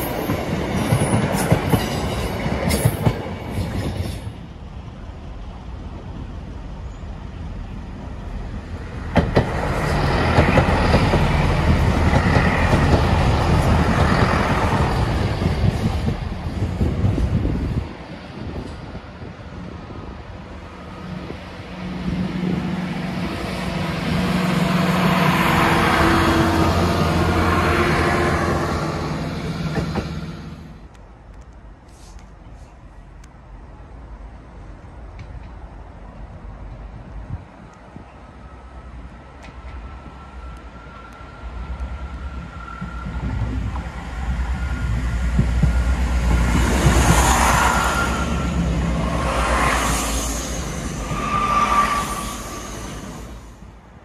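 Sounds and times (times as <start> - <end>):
diesel train passing: 0.0 - 54.0.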